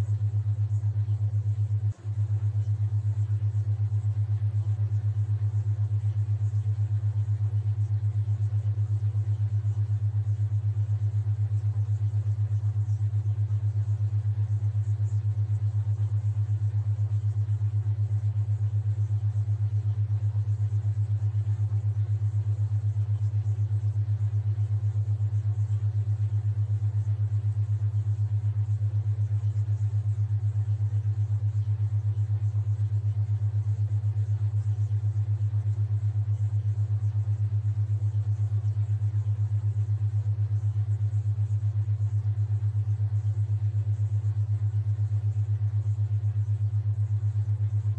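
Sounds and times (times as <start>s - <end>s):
deep pulsing hum tone: 0.0s - 47.9s.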